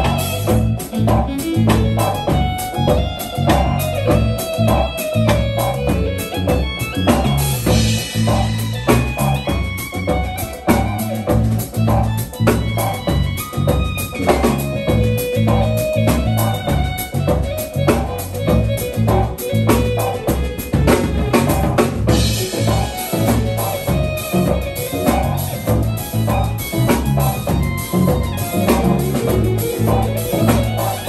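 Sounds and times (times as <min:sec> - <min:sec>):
drum kit: 0:00.0 - 0:31.0
electric bass line: 0:00.0 - 0:31.0
keyboard chords: 0:00.0 - 0:31.0.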